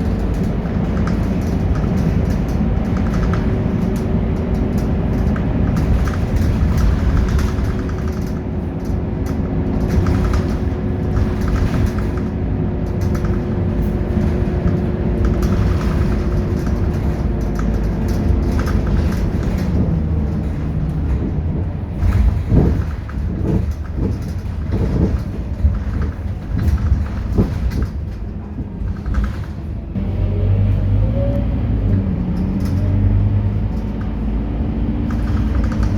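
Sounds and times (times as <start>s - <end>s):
knocks and rattles: 0.0s - 30.0s, 31.9s - 35.9s
bus diesel engine running: 0.0s - 35.9s.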